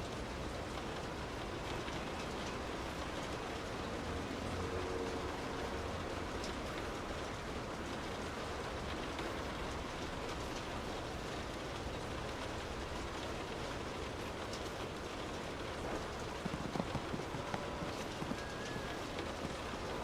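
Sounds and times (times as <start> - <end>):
rain hissing on a car: 0.0 - 20.0.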